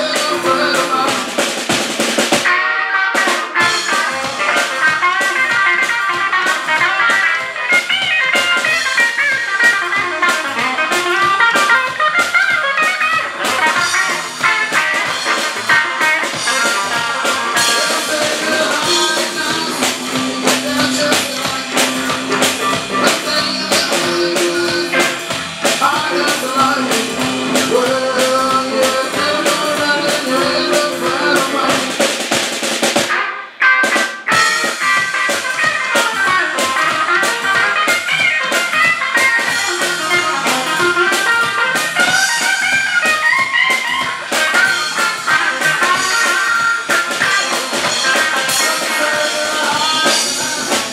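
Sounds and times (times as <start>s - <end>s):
drum kit: 0.0s - 50.9s
electric guitar lead lines: 0.0s - 50.9s.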